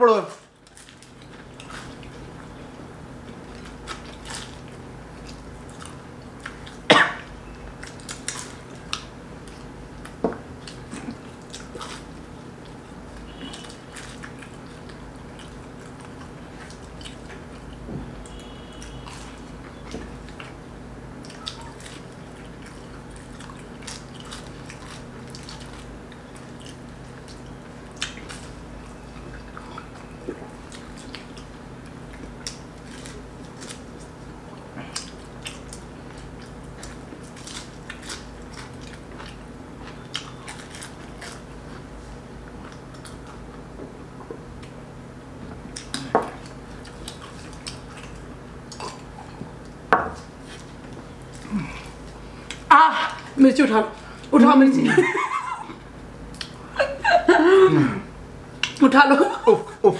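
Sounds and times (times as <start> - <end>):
steady low hum: 0.0 - 59.9
crisp pastry crunching: 0.5 - 43.7, 45.6 - 53.4
people biting and chewing: 0.5 - 53.4, 56.3 - 56.8.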